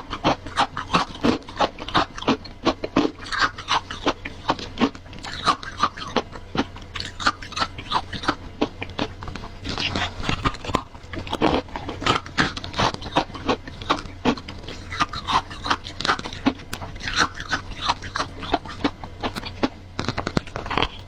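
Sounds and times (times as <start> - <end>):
chewing crunchy frost: 0.0 - 21.0
steady low hum: 0.0 - 21.0.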